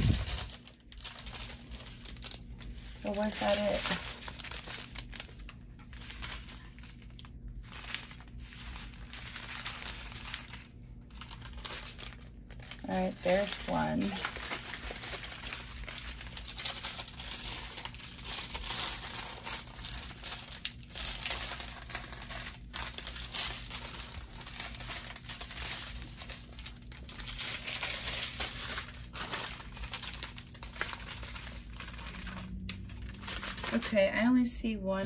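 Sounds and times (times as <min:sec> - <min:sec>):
plastic bags crinkling: 0:00.0 - 0:34.5.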